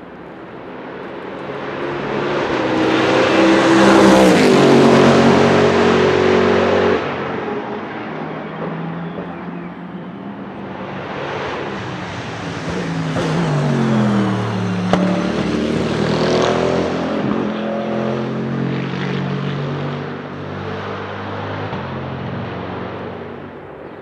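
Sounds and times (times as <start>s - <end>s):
race car engine passing: 0.8s - 23.6s.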